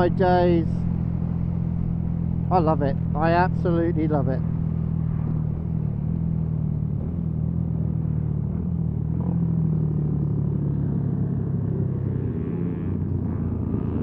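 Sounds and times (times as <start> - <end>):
motorcycle engine cruising: 0.0 - 14.0
road and wind rumble: 0.0 - 14.0.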